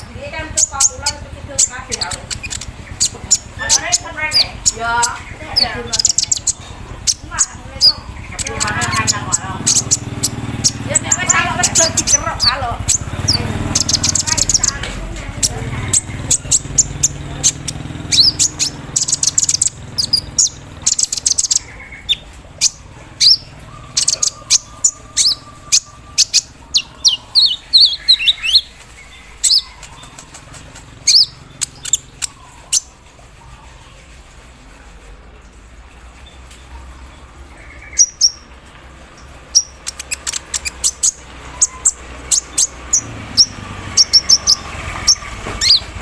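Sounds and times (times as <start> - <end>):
bird singing high chirps and trills: 0.0 - 34.6, 35.5 - 46.0.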